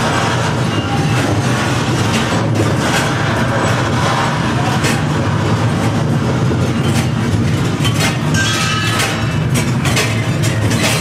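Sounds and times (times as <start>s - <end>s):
deep rumble: 0.0s - 11.0s
rattling and clattering: 0.0s - 11.0s.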